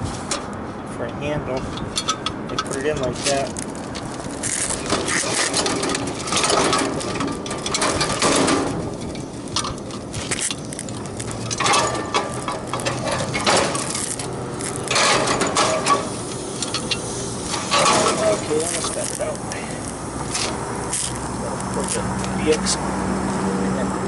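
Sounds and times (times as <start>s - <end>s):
heavy compressor scraping and clunking: 0.0s - 23.8s.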